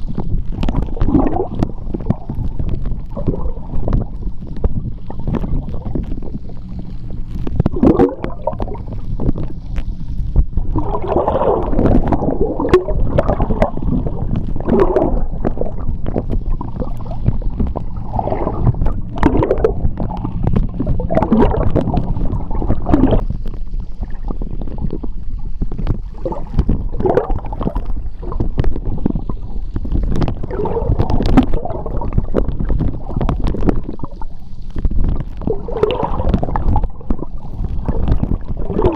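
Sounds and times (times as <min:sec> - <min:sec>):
underwater rumble: 0:00.0 - 0:38.9
water gurgling: 0:00.0 - 0:38.9.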